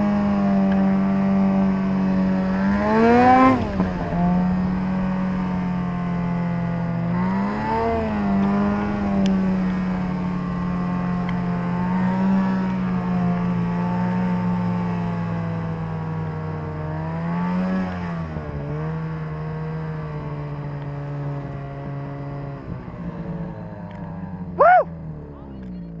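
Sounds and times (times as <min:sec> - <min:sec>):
snowmobile engine under throttle: 0:00.0 - 0:26.0.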